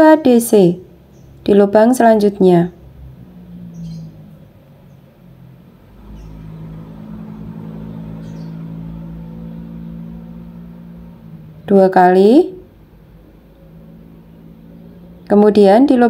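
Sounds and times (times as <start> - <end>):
low motor hum with rumble: 0.0 - 16.0.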